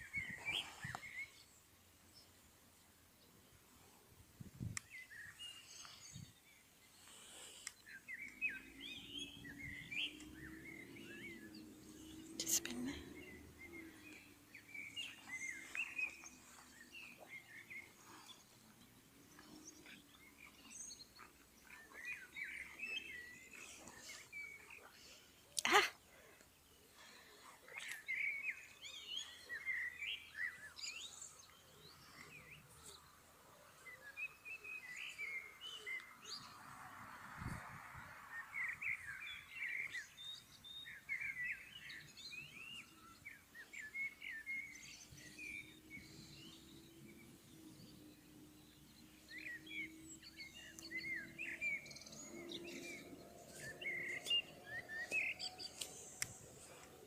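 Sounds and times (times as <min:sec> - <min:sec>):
small birds chirping: 0:00.0 - 0:36.7, 0:37.4 - 0:57.0.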